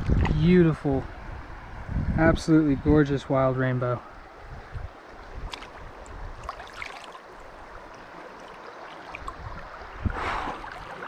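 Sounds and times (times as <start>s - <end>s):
water splashing and trickling: 0.0s - 1.4s, 2.4s - 11.0s
river water flowing: 0.0s - 11.0s.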